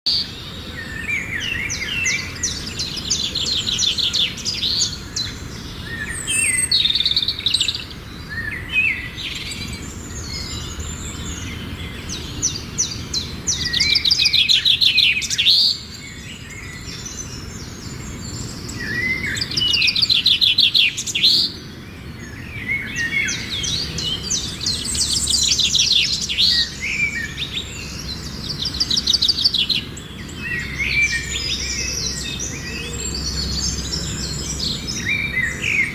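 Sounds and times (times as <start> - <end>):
cage birds chirping and trilling: 0.1 - 35.9.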